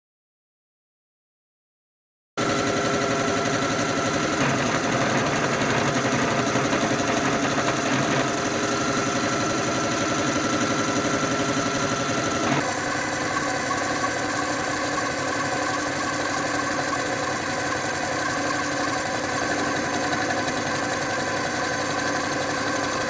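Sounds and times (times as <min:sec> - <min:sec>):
power tool running with rattle: 0:02.4 - 0:23.0.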